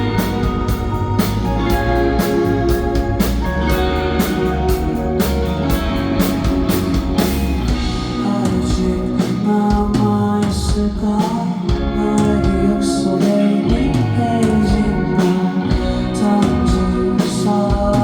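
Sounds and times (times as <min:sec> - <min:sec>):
electric guitar: 0:00.0 - 0:18.0
rock band instrumental: 0:00.0 - 0:18.0.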